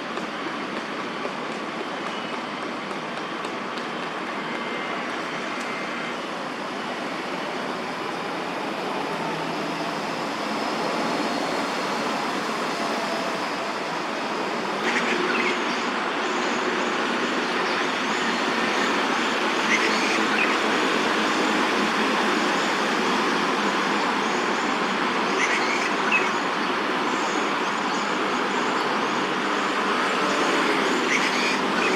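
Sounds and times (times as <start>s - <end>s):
road traffic noise: 0.0s - 31.9s.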